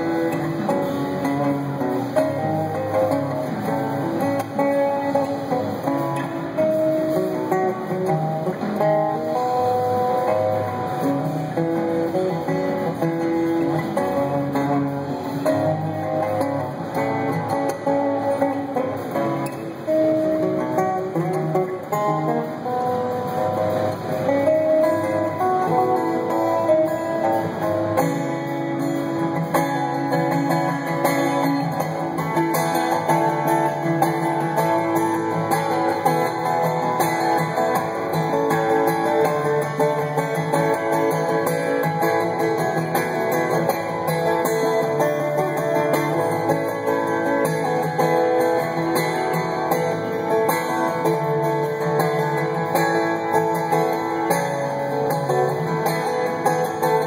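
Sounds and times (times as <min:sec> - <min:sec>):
fingerstyle acoustic guitar: 0:00.0 - 0:57.0.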